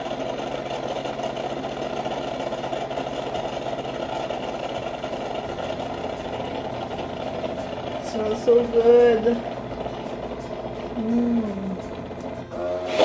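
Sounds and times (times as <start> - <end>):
coffee machine humming: 0.0 - 13.0.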